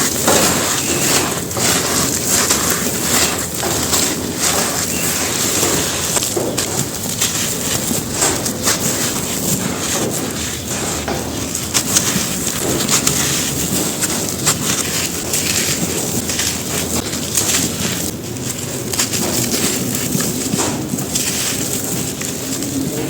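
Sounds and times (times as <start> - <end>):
dirt crumbling onto floor: 0.0 - 23.0.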